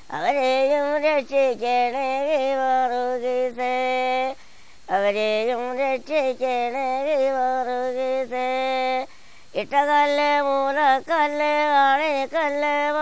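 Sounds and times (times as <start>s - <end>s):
person singing a hymn: 0.0s - 13.0s.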